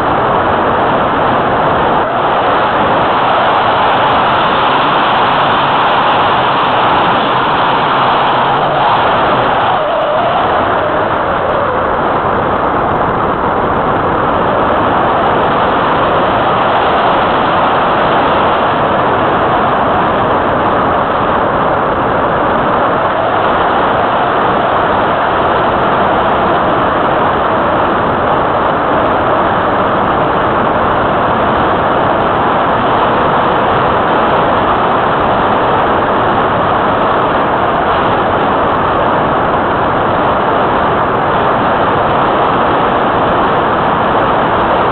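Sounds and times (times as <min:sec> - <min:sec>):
airflow rushing over camera: 0:00.0 - 0:44.9.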